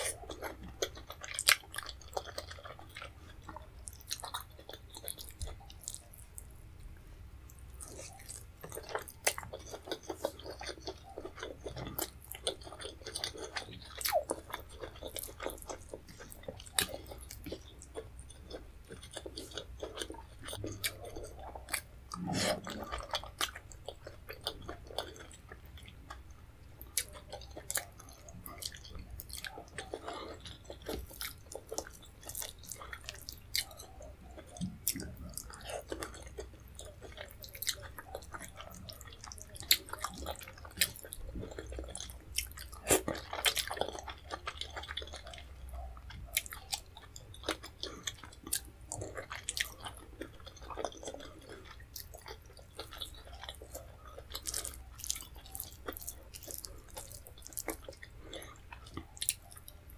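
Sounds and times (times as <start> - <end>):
chewing with mouth clicks: 0.0 - 6.6, 7.5 - 59.9.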